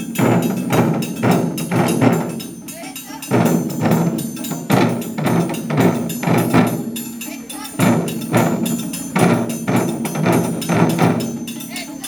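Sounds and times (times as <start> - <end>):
taiko drums struck hard: 0.0 - 2.7, 3.3 - 7.0, 7.8 - 11.5
metallic percussion ringing: 0.0 - 12.0.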